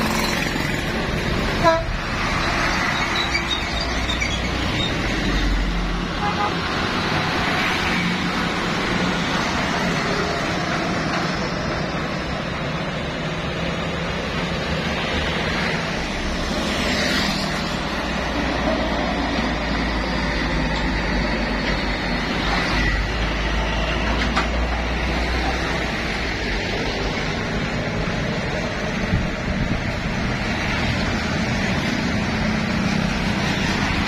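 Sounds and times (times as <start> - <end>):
diesel trucks passing: 0.0 - 34.0
other traffic: 0.0 - 34.0.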